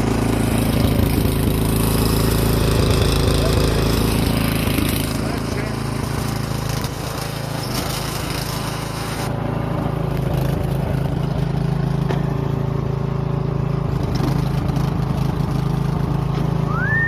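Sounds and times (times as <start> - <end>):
snowblower engine running: 0.0 - 17.0.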